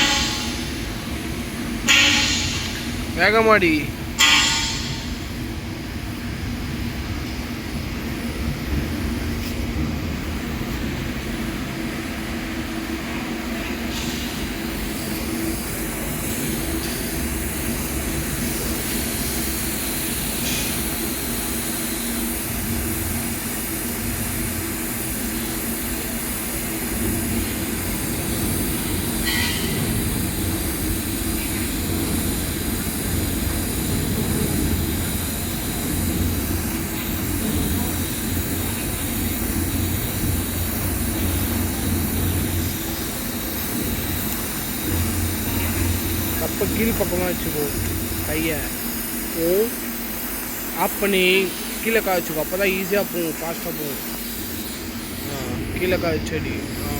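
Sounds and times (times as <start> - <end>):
welding set hum and hiss: 0.0 - 56.9.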